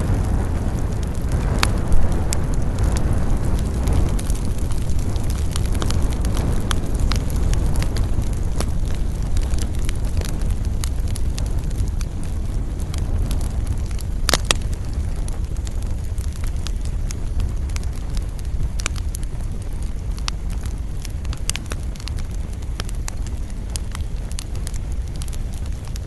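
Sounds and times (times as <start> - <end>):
fire low rumble: 0.0 - 26.0
wood fire crackling and popping: 0.0 - 26.0.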